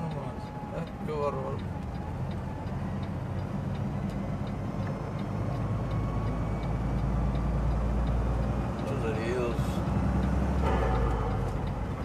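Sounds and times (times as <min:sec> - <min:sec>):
light ticking: 0:00.0 - 0:10.7
engine and road rumble: 0:00.0 - 0:12.0.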